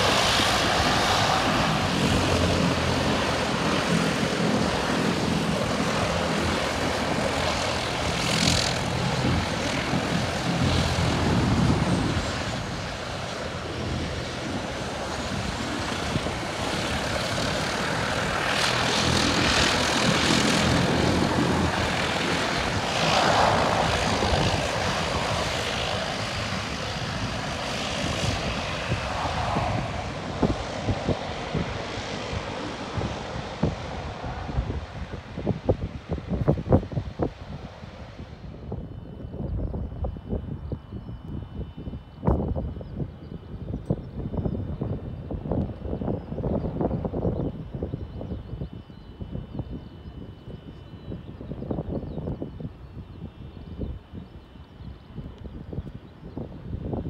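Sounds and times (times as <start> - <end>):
turboprop engines droning: 0.0 - 57.0.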